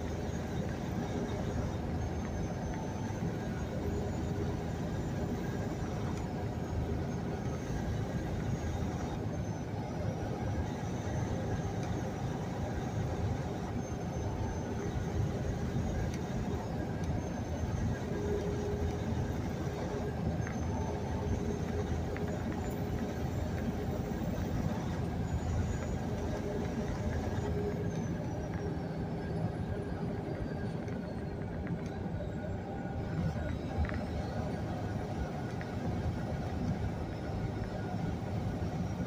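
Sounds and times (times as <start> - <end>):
diesel engine rumble: 0.0 - 39.0
road noise: 0.0 - 39.0.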